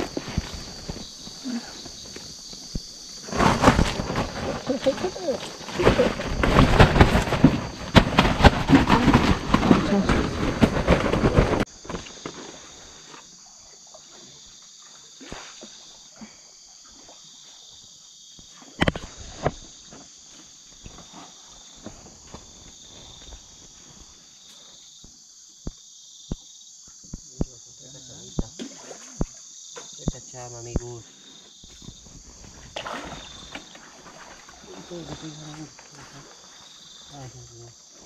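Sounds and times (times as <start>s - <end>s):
crickets chirring: 0.0s - 38.0s.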